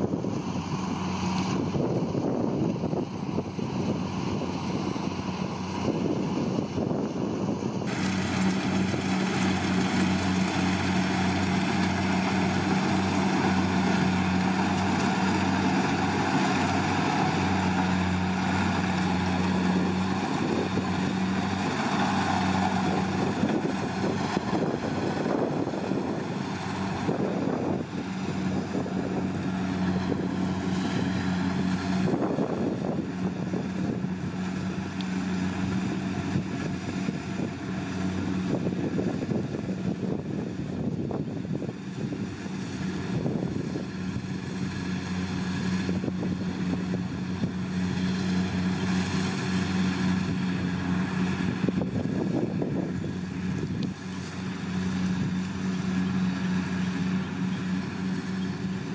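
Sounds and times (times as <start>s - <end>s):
combine harvester engine hum: 0.0s - 58.9s
whir of harvesting machinery: 0.0s - 58.9s.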